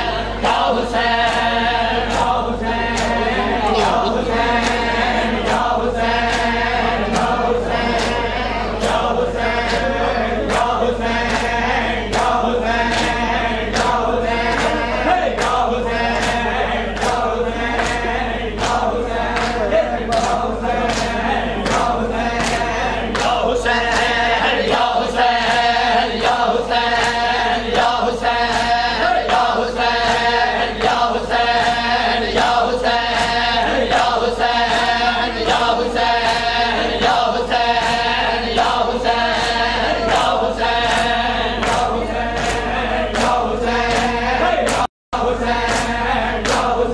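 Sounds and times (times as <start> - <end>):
men chanting in unison: 0.0 - 46.9.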